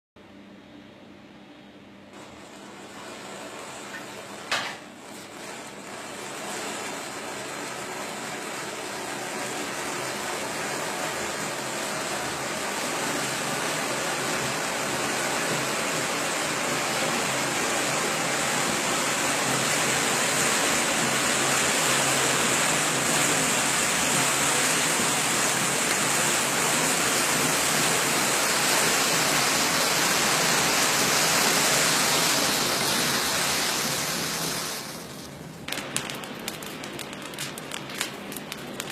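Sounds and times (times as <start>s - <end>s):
matches flaring and hissing: 2.2s - 38.9s.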